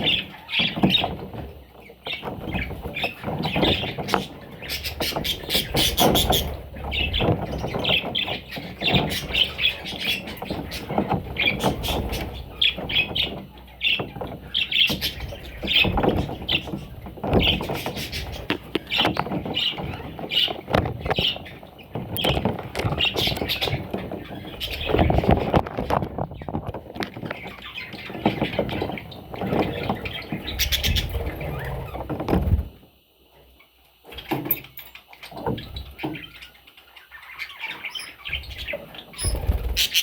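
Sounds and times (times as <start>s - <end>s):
budgerigars chirping: 1.9s - 26.5s, 27.2s - 32.1s, 35.0s - 40.0s.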